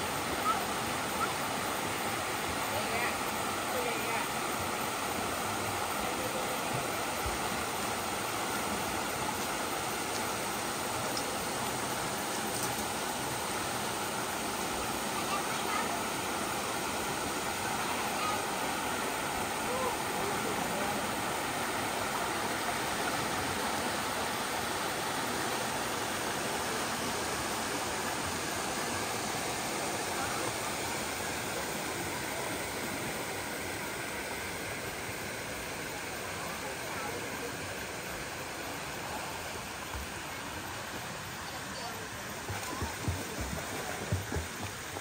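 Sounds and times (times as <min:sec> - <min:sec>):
mountain stream flowing: 0:00.0 - 0:45.0.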